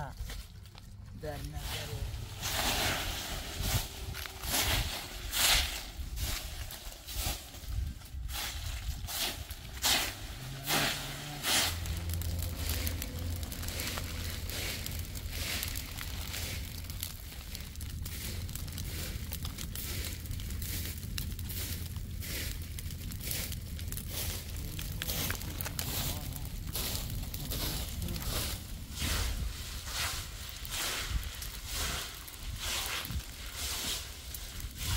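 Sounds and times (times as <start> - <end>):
dry leaves burning and crackling: 0.0 - 34.9
low steady rumble: 0.0 - 34.9
broom sweeping dry leaves: 1.2 - 34.9.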